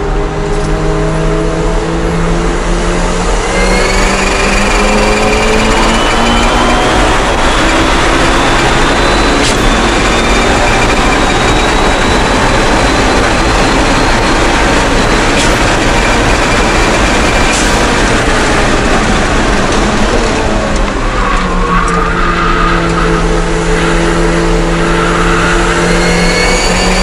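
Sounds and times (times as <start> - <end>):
loud engine and road noise: 0.0 - 27.0
thin high gearbox whine: 3.4 - 27.0.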